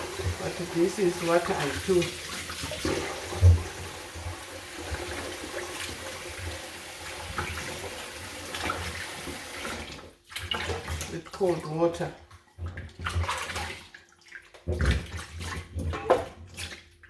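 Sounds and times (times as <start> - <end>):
water splashing in sink: 0.0 - 17.0.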